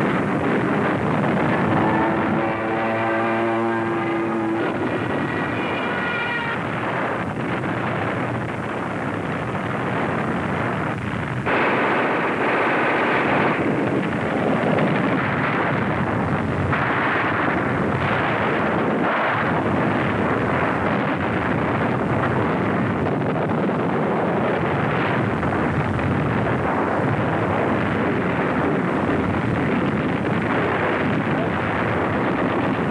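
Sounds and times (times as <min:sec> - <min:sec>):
artillery fire and explosions: 0:00.0 - 0:32.9.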